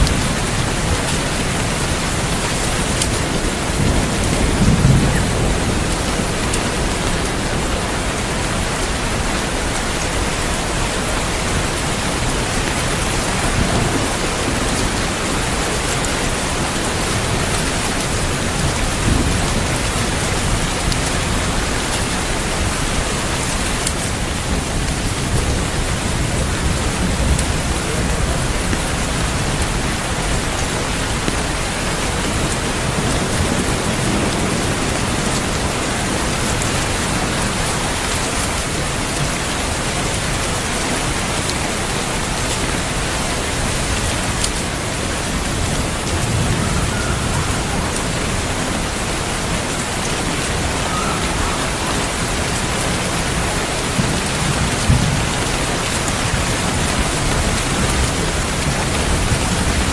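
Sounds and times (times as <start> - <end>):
low thunder rumbling: 0.0 - 40.1, 42.1 - 59.9
rain pouring: 0.0 - 59.9.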